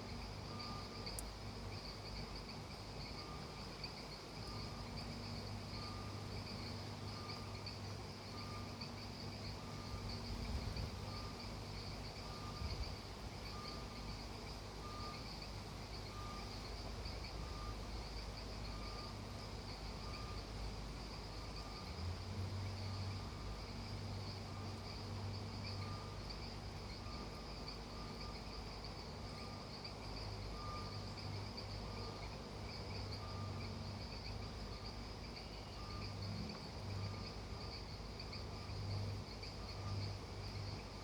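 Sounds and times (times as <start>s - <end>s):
insects trilling: 0.0s - 41.0s
short insect call: 0.0s - 41.0s.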